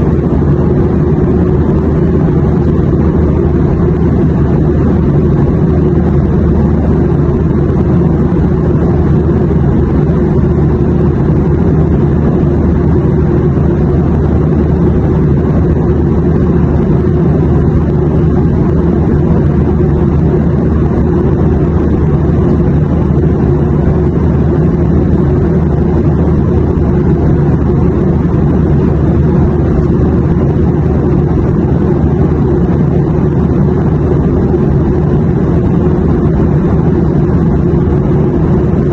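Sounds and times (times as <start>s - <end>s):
airplane low rumbling drone: 0.0s - 38.9s.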